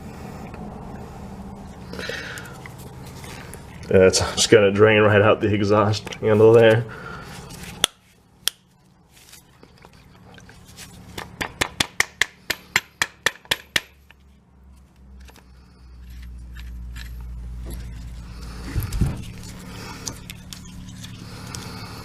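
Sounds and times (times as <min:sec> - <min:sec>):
low steady rumble: 0:00.0 - 0:11.6, 0:13.7 - 0:22.0.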